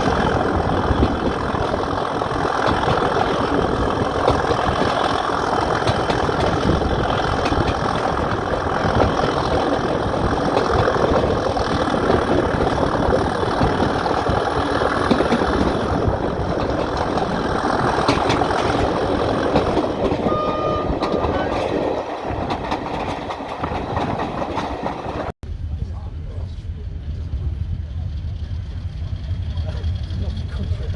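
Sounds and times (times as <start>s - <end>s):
diesel locomotive engine: 0.0s - 30.9s
rail noise: 0.0s - 30.9s.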